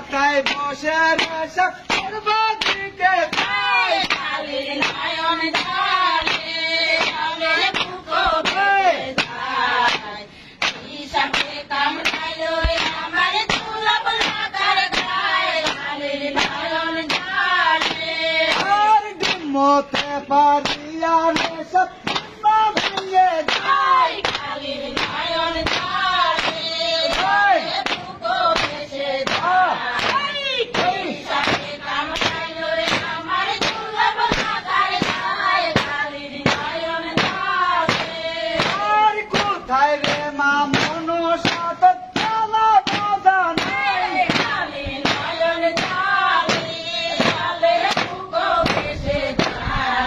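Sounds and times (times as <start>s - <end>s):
women singing together: 0.0s - 50.0s
wooden beaters slapping roof floor: 0.0s - 50.0s.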